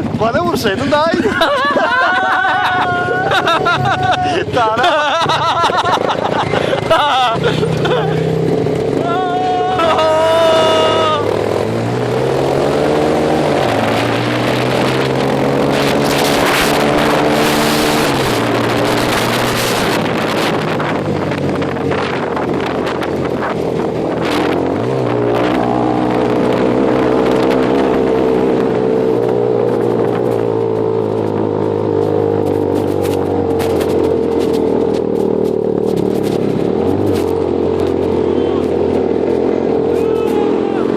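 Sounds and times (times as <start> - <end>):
vehicle engine under load: 0.0 - 40.9.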